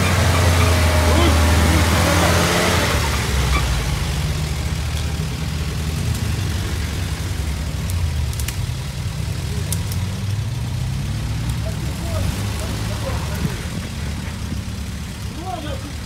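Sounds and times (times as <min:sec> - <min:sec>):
vehicle engine idling at low revs: 0:00.0 - 0:16.0.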